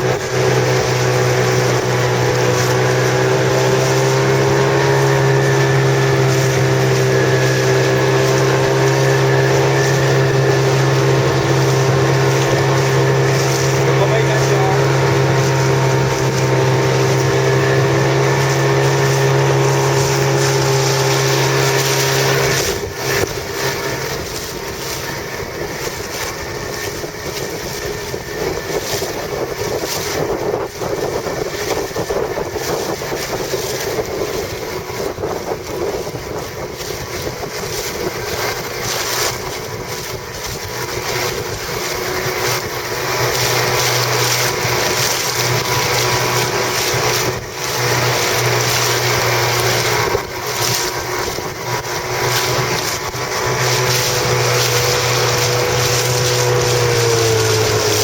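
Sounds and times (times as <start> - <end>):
engine hum: 0.0 - 58.0
wind on microphone: 0.0 - 58.0.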